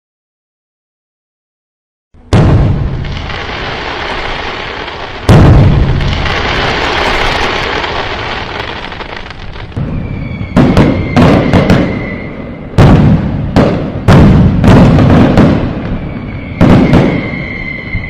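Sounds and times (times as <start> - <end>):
fireworks bangs: 2.2 - 18.0
fireworks crackling rumble: 2.2 - 18.0
fireworks whistle: 2.3 - 18.0.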